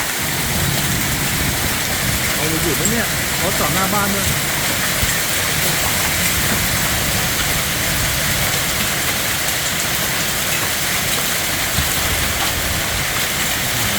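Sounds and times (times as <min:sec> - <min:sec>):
heavy rain and hail pelting: 0:00.0 - 0:13.9.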